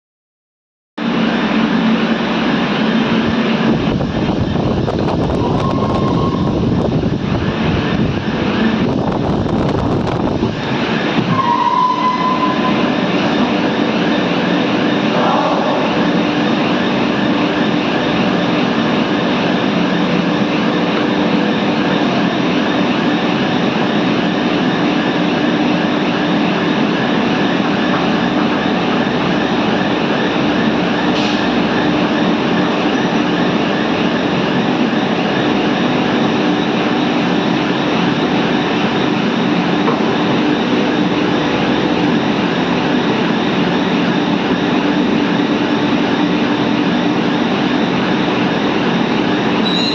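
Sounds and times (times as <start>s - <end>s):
constant machine hum: 1.0s - 49.9s.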